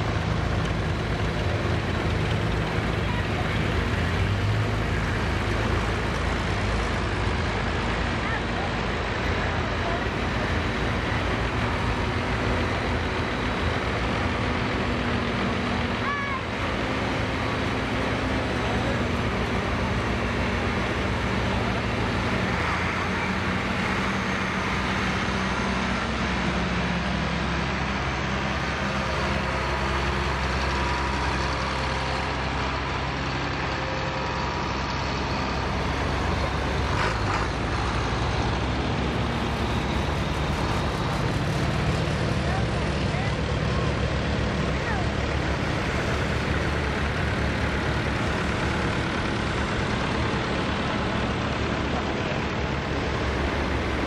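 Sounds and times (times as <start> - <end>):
tractor engines passing: 0.0 - 54.0.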